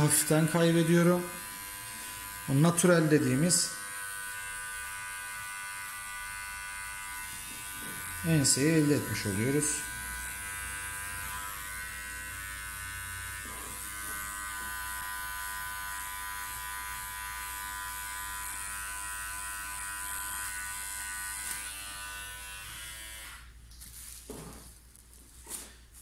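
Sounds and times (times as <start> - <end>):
electric hair clipper running: 0.0 - 23.6.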